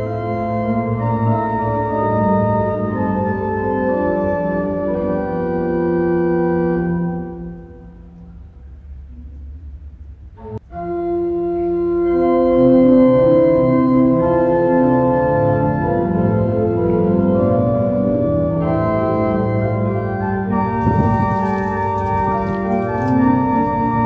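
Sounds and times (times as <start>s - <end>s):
organ playing sustained chords: 0.0s - 24.0s.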